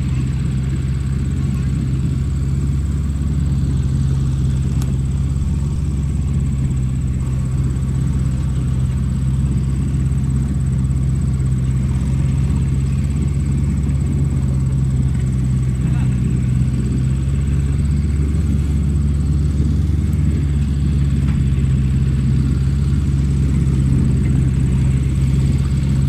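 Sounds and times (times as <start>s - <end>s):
diesel engines rumbling: 0.0s - 26.0s.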